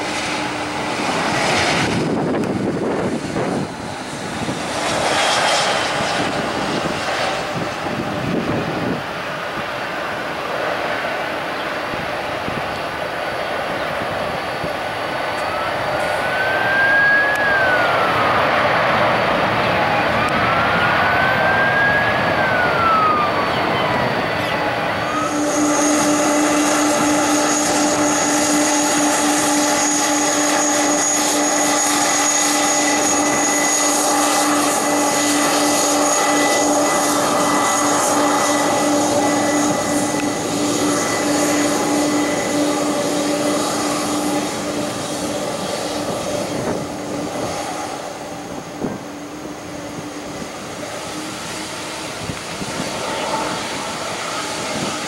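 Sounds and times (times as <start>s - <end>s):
jet engines taxiing: 0.0s - 55.0s
loud steady whine: 0.0s - 55.0s.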